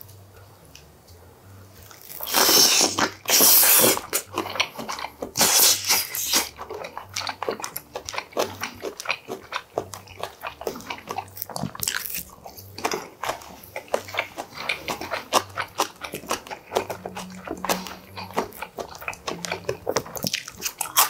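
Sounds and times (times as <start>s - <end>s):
wet chewing: 1.8s - 21.0s.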